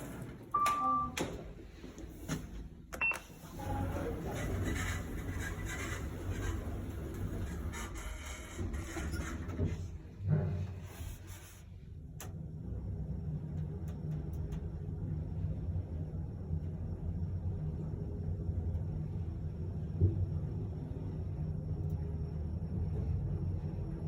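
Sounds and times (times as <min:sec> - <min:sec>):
lift low rumble: 0:00.0 - 0:24.0.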